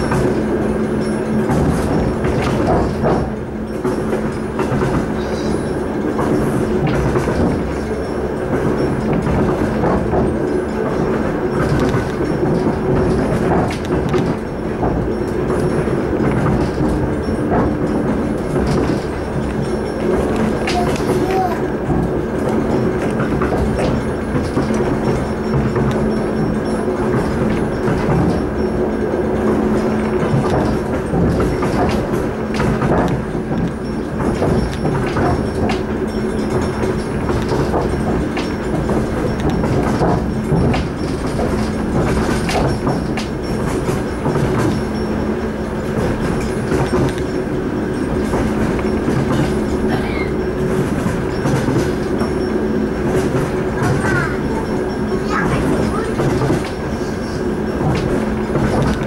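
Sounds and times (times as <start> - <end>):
train carriage rumble and hum: 0.0 - 59.0
wheels knocking over rail joints: 0.0 - 59.0.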